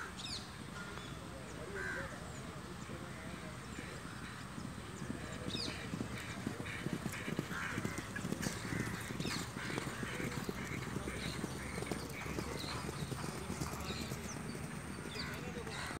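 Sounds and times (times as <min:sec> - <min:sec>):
hooves galloping on turf: 0:02.6 - 0:15.9.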